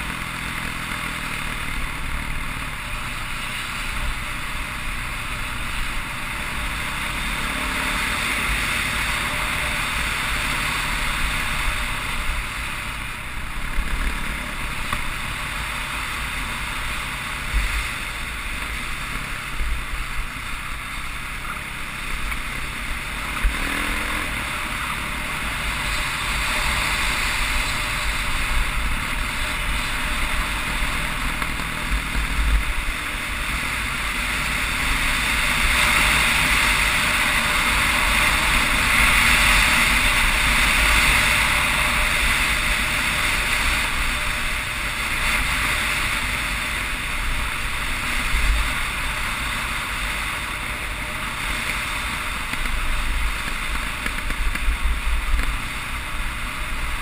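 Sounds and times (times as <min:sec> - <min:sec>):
dirt bike engine drone: 0:00.0 - 0:57.0.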